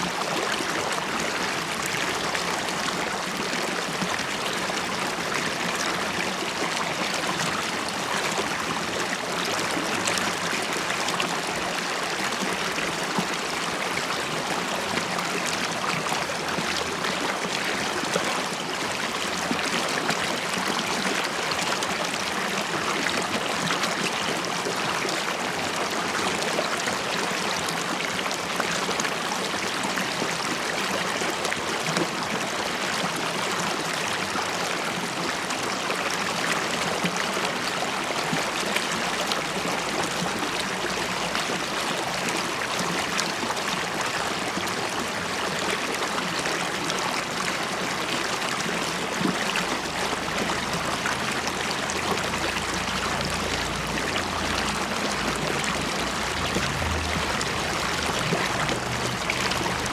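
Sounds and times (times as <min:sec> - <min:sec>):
river water babbling over stones: 0:00.0 - 0:59.9.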